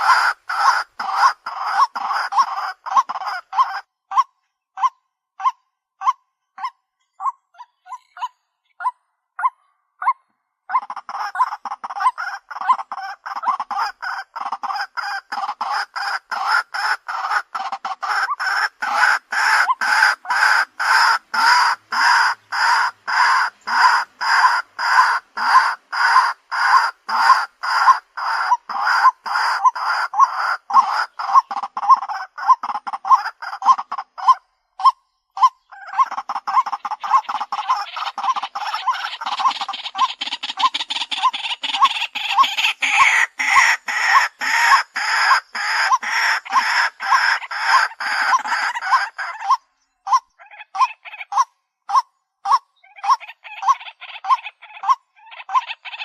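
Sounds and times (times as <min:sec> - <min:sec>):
waterhen calling harsh notes: 0:00.0 - 0:09.6, 0:10.7 - 0:56.0.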